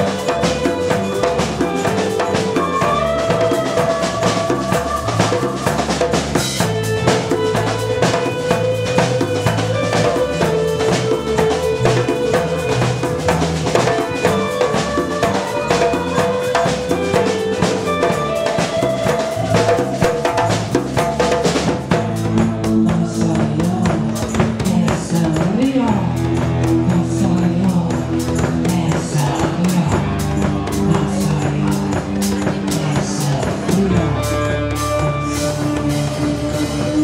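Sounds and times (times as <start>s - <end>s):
congas: 0.0s - 37.0s
drum kit: 0.0s - 37.0s
electric bass: 0.0s - 37.0s
electric guitar: 0.0s - 37.0s.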